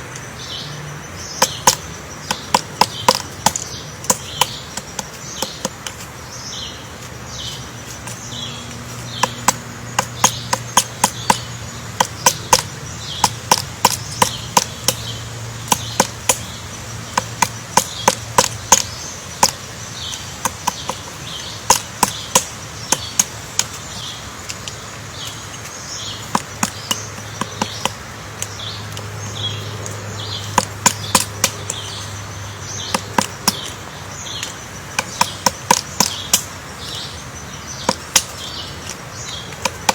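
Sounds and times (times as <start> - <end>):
woodpecker pecking into wood: 1.1 - 39.9.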